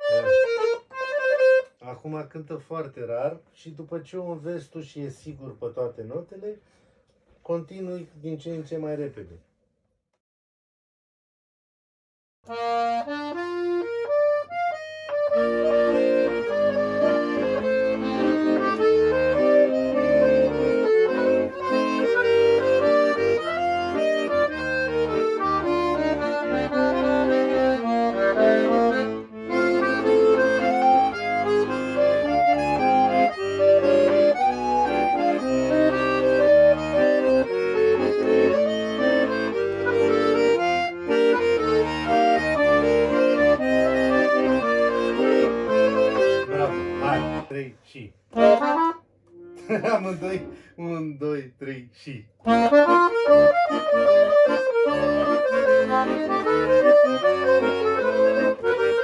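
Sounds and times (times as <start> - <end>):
accordion melody: 0.0 - 2.3, 12.4 - 51.3, 52.4 - 59.0
accordion bass and chords: 0.0 - 6.6, 12.4 - 59.0.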